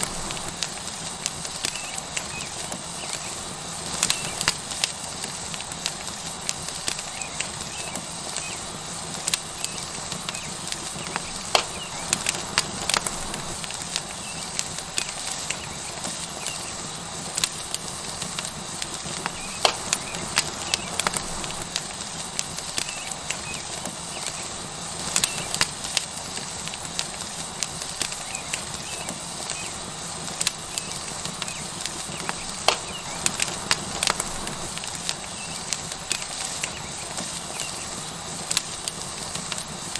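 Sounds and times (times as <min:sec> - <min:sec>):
steak sizzling on a hot rock: 0:00.0 - 0:39.9
wood fire crackling and popping: 0:00.0 - 0:39.9.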